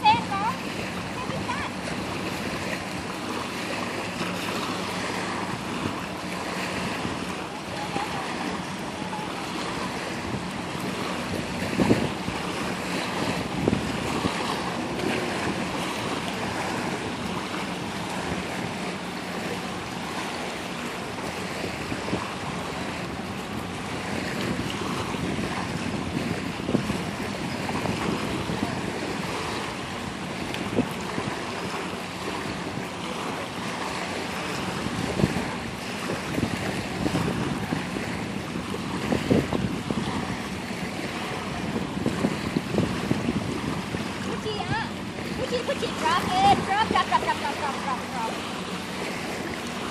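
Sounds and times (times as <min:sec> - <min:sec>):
small waves lapping on sand: 0:00.0 - 0:49.9
wind buffeting microphone: 0:00.0 - 0:49.9.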